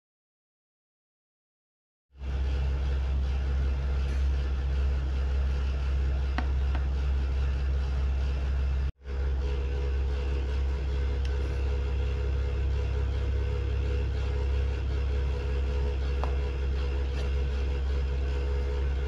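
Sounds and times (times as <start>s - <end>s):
low-pitched hum: 2.2s - 19.0s.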